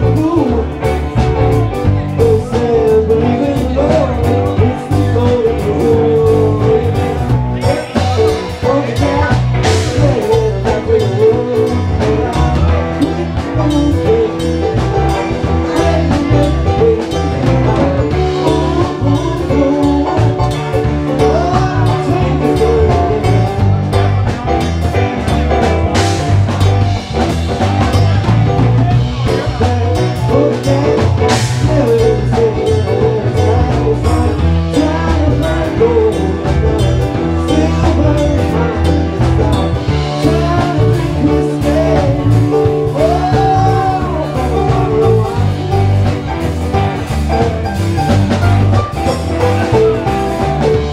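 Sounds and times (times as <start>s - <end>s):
live band playing upbeat jam: 0.0s - 50.9s.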